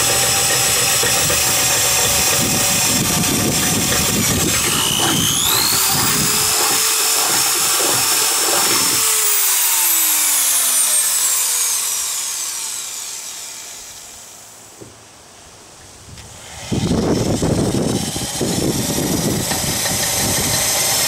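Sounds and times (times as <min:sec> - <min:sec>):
drill boring through steel: 0:00.0 - 0:14.6, 0:16.4 - 0:21.0
drill winding down: 0:00.0 - 0:14.6, 0:16.4 - 0:21.0.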